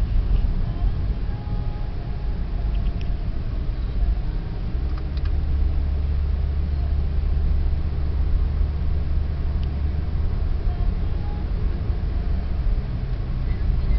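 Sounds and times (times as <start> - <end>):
car interior road rumble: 0.0 - 13.9.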